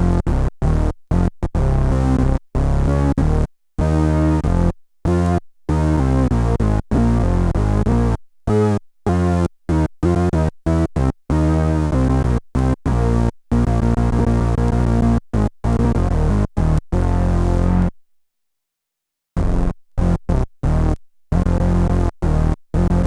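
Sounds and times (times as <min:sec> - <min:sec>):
synth bass notes: 0:00.0 - 0:18.0, 0:19.4 - 0:23.0.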